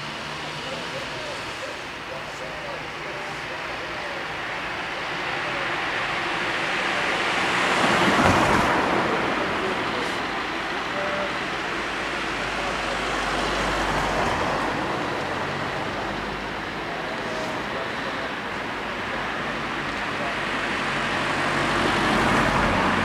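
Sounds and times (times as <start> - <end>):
heavy vehicle passing: 0.0 - 23.0
vehicles passing close by: 0.0 - 23.0.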